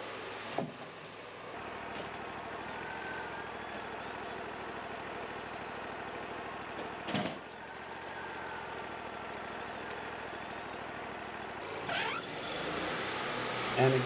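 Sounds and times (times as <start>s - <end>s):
sawmill engine idling: 0.0s - 14.0s.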